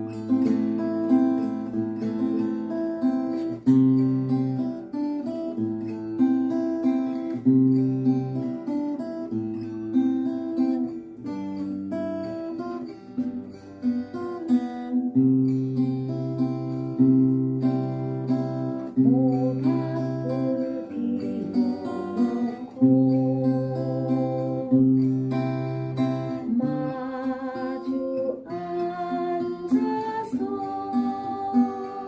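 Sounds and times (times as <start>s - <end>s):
guitar waltz accompaniment: 0.0s - 32.0s.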